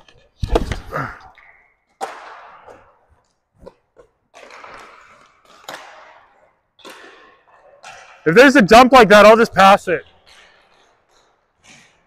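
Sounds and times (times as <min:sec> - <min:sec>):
skate wheels scraping floor: 0:00.0 - 0:08.3, 0:09.9 - 0:12.0.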